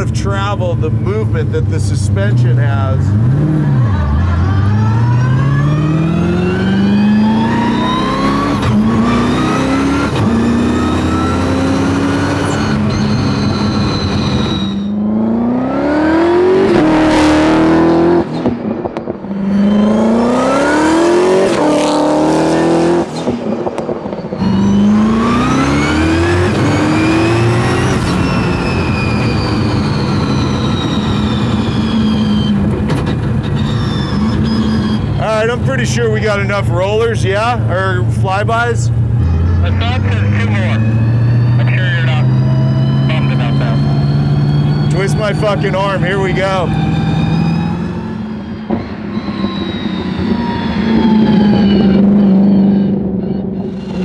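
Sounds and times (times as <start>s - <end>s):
car engine revving hard: 2.4s - 36.5s, 38.5s - 54.0s.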